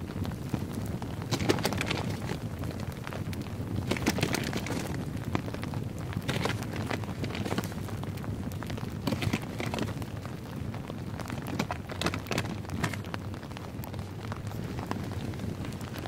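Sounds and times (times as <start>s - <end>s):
campfire crackling: 0.0s - 16.0s
rain on a tarp: 0.0s - 16.0s.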